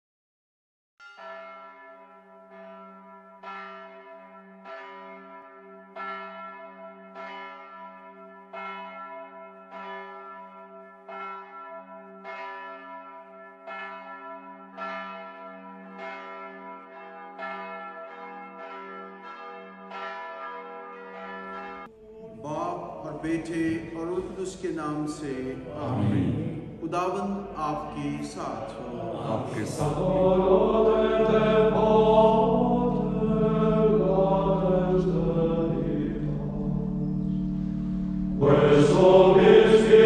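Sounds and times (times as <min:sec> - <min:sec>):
church bells ringing: 0:01.0 - 0:25.7, 0:26.7 - 0:40.0.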